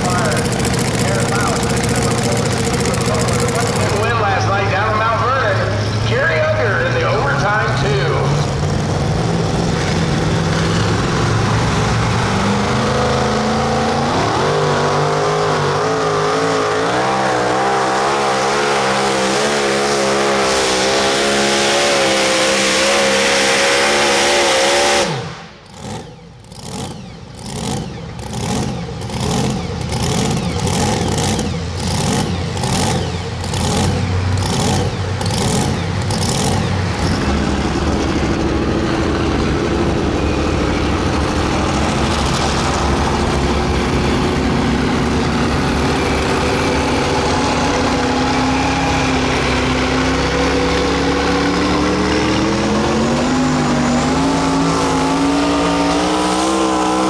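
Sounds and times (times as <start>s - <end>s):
pulling truck engine at full throttle: 0.0s - 57.0s.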